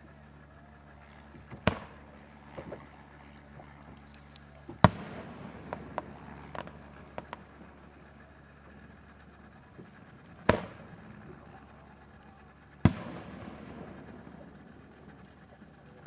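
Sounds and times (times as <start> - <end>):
fireworks bursting: 1.4 - 2.7, 4.4 - 16.0.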